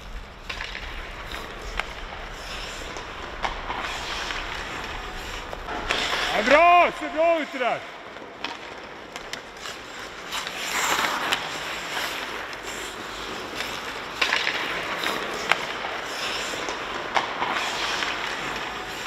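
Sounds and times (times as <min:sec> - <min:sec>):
hockey sticks and pucks clacking: 0:00.0 - 0:19.0
skates scraping on ice: 0:00.0 - 0:19.0.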